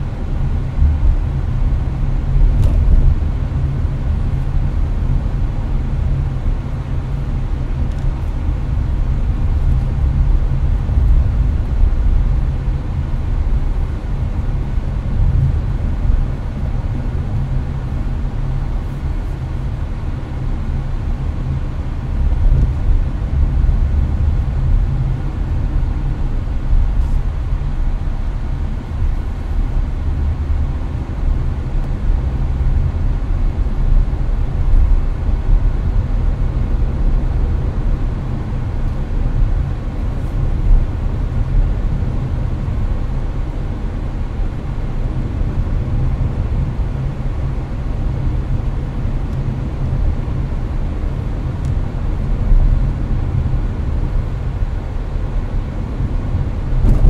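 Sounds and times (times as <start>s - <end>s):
air conditioner fan running: 0.0s - 57.0s
road and engine rumble: 0.0s - 57.0s.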